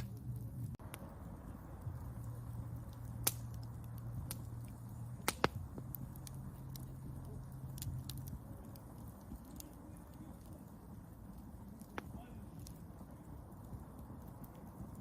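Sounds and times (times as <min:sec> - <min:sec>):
campfire wood crackling: 0:00.0 - 0:15.0
loud fire pops: 0:00.0 - 0:15.0
low steady rumble: 0:00.0 - 0:15.0.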